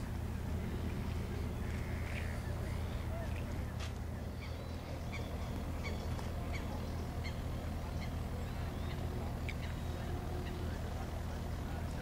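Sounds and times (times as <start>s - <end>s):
steady low rumble: 0.0s - 12.0s
bird calling: 0.6s - 11.9s.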